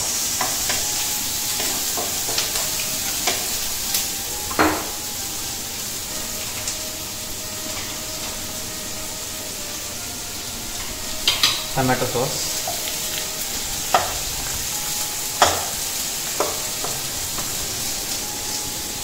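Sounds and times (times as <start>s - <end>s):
cooking utensils clicking and knocking: 0.0s - 5.7s, 7.5s - 8.8s, 10.7s - 19.0s
vegetables sizzling in a pot: 0.0s - 19.0s.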